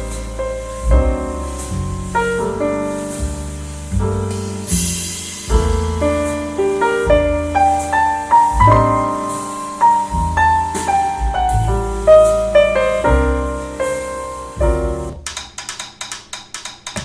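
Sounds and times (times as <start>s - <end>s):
piano music through speakers: 0.0s - 15.3s.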